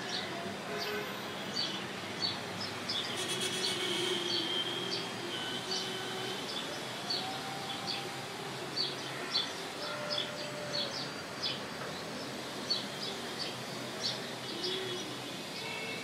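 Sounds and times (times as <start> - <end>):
steady outdoor background hiss: 0.0 - 16.0.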